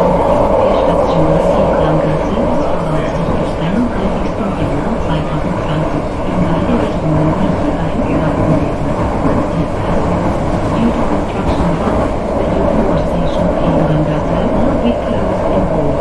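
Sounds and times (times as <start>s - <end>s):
metro train running on track: 0.0s - 16.0s.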